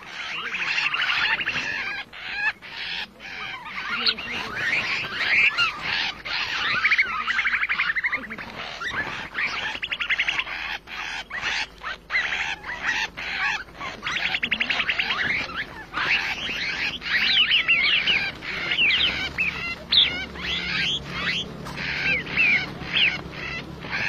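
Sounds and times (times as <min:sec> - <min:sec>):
birds chattering trills: 0:00.0 - 0:24.0
whistled bird calls: 0:00.0 - 0:24.0
wings fluttering: 0:00.0 - 0:24.0.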